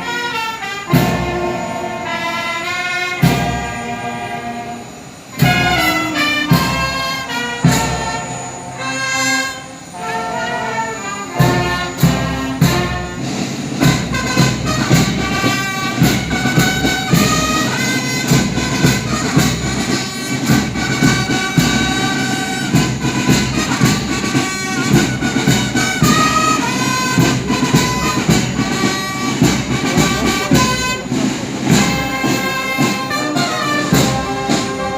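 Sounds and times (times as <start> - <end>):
held brass notes: 0.0 - 34.9
regular percussion: 0.0 - 34.9.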